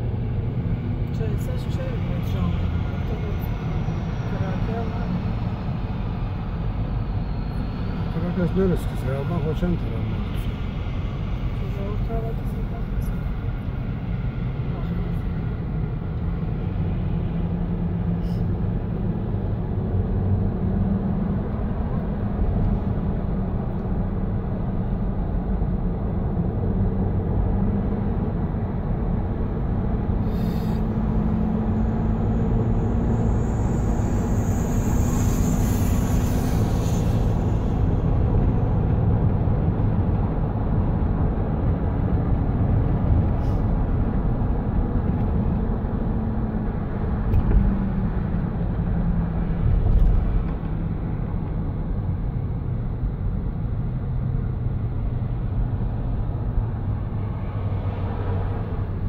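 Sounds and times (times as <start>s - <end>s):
car cabin road drone: 0.0s - 59.0s.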